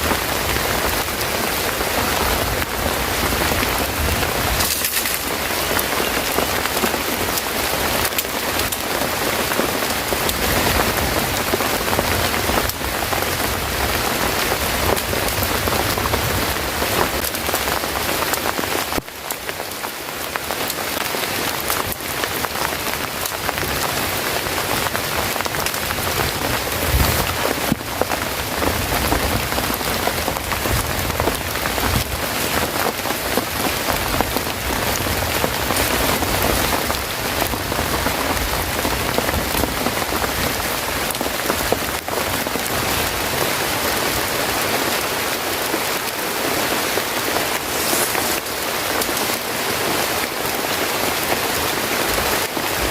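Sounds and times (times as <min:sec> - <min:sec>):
heavy rain pattering: 0:00.0 - 0:52.9.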